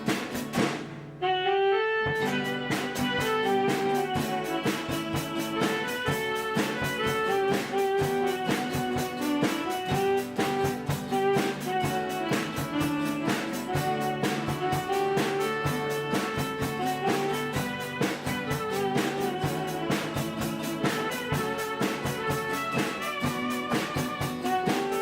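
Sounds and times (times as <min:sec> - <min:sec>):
guitars strummed: 0:00.0 - 0:25.0
held melody line: 0:01.2 - 0:25.0.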